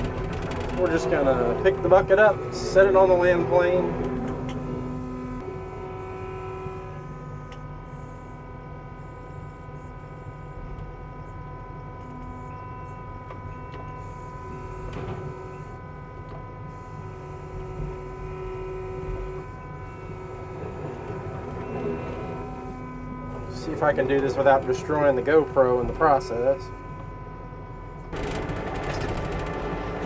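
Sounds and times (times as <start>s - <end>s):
diesel engine droning with whine: 0.0s - 30.0s.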